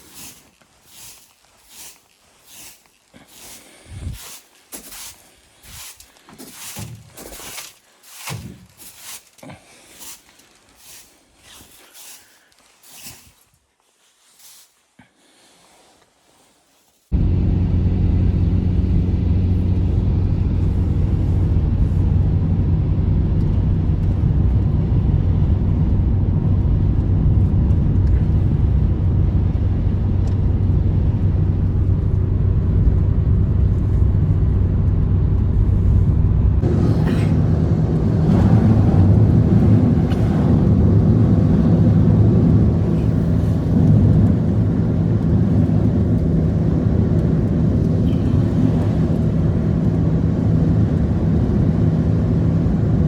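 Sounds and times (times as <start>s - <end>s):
engine rumbling: 0.0s - 13.3s, 17.1s - 53.0s.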